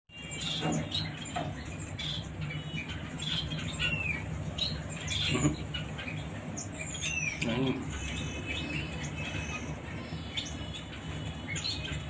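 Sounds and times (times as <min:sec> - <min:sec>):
steady low hum: 0:00.1 - 0:12.0
parrot chirping and squawking: 0:00.2 - 0:12.0.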